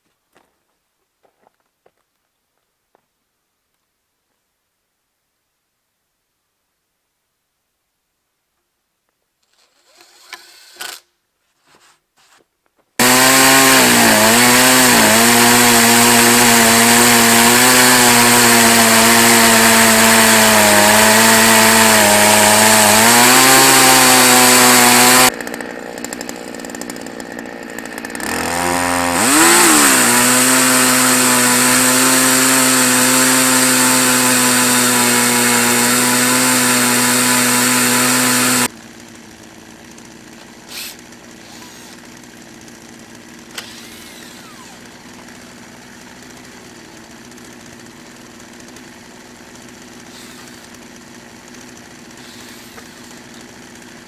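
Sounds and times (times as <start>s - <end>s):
chainsaw cutting log: 9.4s - 12.4s, 13.0s - 54.0s.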